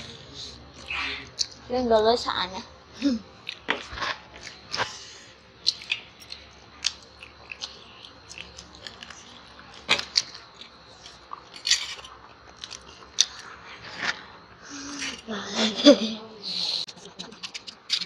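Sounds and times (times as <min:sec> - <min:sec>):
children chewing and biting food: 0:00.0 - 0:01.7, 0:03.0 - 0:15.8, 0:16.5 - 0:18.0.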